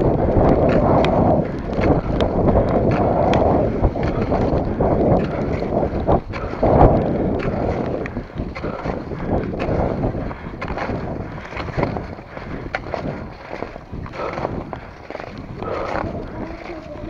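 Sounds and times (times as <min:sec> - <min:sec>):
wind buffeting microphone: 0:00.0 - 0:17.0
ski poles clicking: 0:00.1 - 0:17.0.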